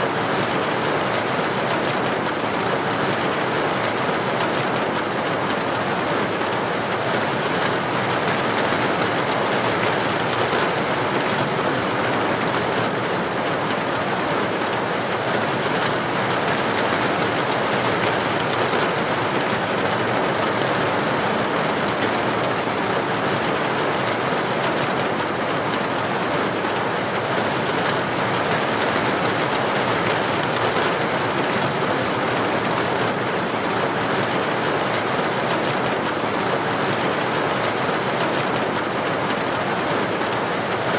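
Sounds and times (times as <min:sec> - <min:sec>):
heavy rain on pavement: 0:00.0 - 0:40.9.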